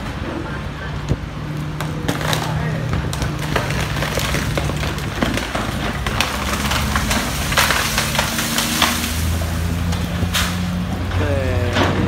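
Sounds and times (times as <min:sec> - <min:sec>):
tree branches cracking and snapping: 0:01.4 - 0:12.0.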